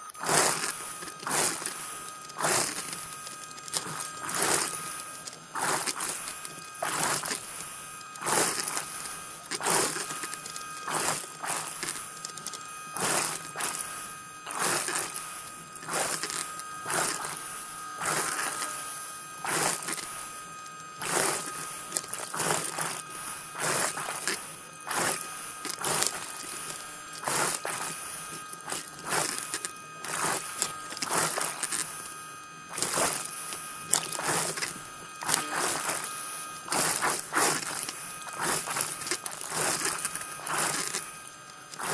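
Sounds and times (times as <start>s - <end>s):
underwater scooter motor whine: 0.0s - 41.9s.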